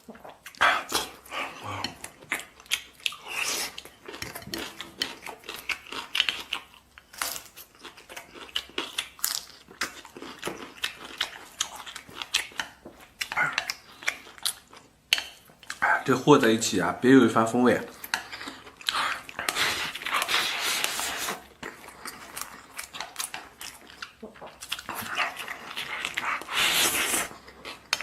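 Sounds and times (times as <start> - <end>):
person chewing food: 0.0 - 16.1, 17.8 - 28.0.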